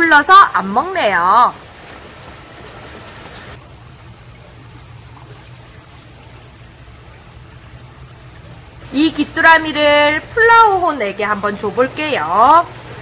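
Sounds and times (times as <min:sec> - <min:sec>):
water trickling: 0:00.0 - 0:13.0
low hum of filter pump: 0:00.1 - 0:13.0.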